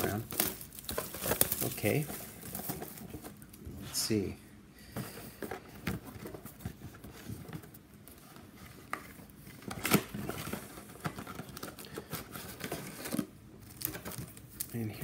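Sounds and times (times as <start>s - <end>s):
cardboard box rustling: 0.0s - 3.4s, 5.1s - 14.3s.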